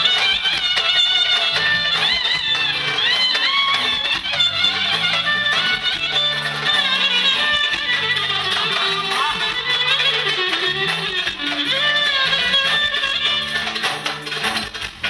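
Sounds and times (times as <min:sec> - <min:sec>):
folk dance music: 0:00.0 - 0:15.0.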